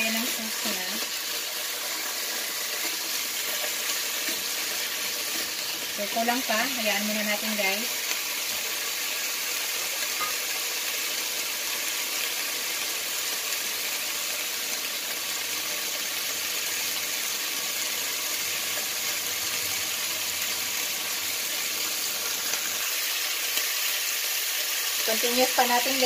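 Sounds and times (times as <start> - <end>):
pork chops sizzling in a pan: 0.0 - 26.0.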